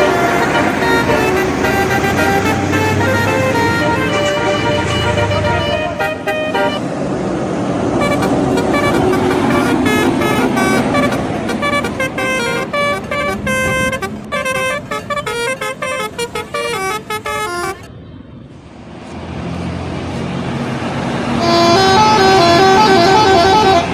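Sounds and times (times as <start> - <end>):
bus horn playing fast tune: 0.0 - 6.8, 8.0 - 17.9, 21.3 - 23.9.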